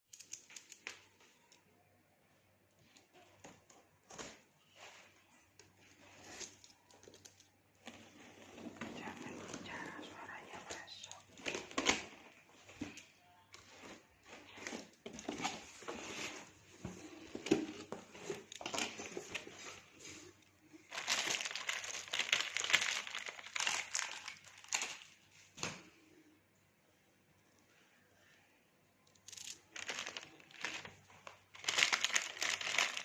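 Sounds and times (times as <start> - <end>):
packaging crinkling and rustling: 2.8 - 25.6, 29.2 - 33.0.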